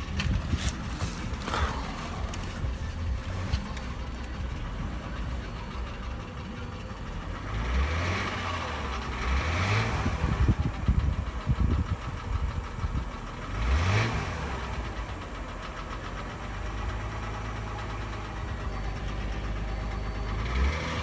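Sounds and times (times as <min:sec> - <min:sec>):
car engine running with a knock: 0:00.0 - 0:21.0
engine revving: 0:00.0 - 0:21.0.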